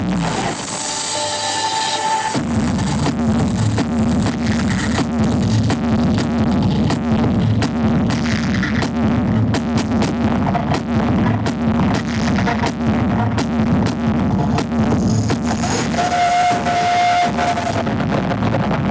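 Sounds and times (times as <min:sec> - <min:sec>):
loud electronic dance music: 0:00.0 - 0:18.9.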